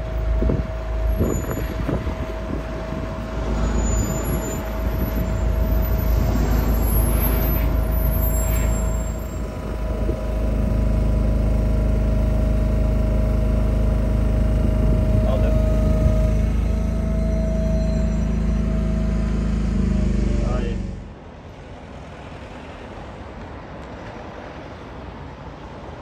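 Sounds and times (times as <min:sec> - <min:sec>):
steady hum: 0:00.0 - 0:21.1
lorry engine and road rumble: 0:00.0 - 0:26.0.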